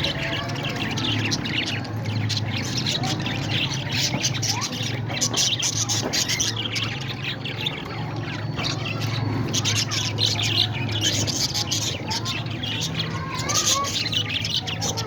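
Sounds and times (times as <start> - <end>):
parrots chattering and squawking: 0.0 - 15.0.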